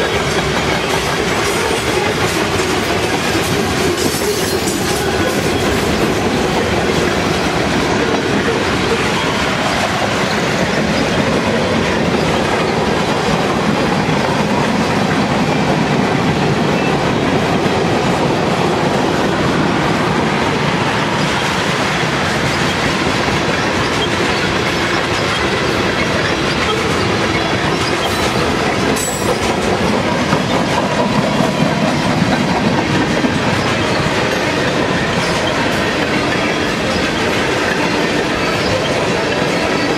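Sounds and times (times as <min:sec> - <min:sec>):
clickety-clack over rail joints: 0:00.0 - 0:39.9
steel wheels rumbling on rail: 0:00.0 - 0:39.9.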